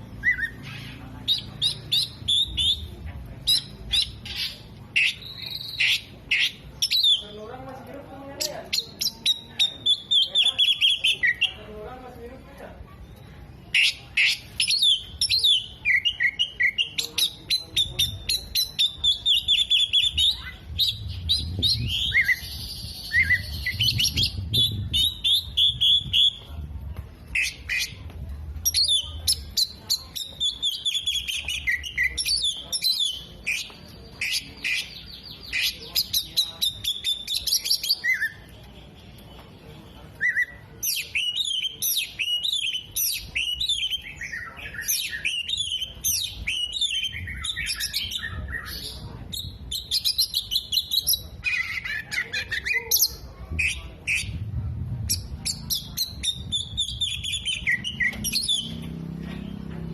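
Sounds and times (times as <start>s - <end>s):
magpie-robin singing: 0.0s - 11.8s, 13.0s - 38.6s, 40.1s - 54.4s, 55.0s - 59.6s.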